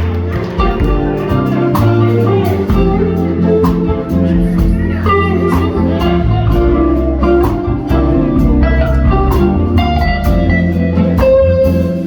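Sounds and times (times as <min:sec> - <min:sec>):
electric guitar: 0:00.0 - 0:12.0
live blues band playing: 0:00.0 - 0:12.0.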